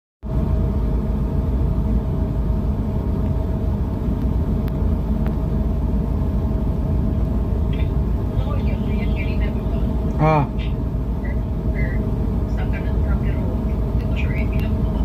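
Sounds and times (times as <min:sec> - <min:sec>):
faint hum: 0:00.2 - 0:15.0
ship engine rumbling: 0:00.2 - 0:15.0.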